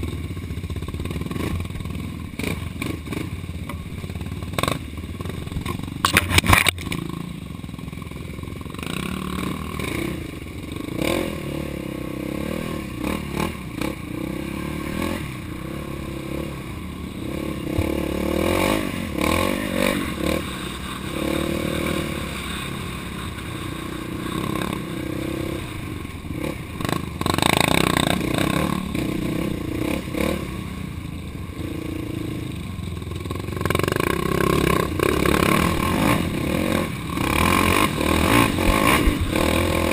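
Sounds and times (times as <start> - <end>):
off-road engine running: 0.0 - 39.9.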